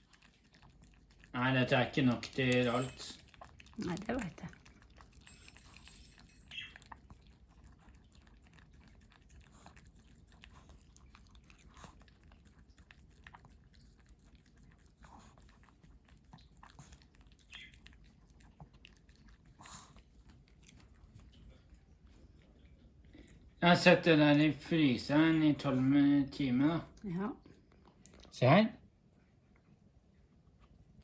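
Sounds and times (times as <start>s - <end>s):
dog chewing: 0.0s - 25.4s.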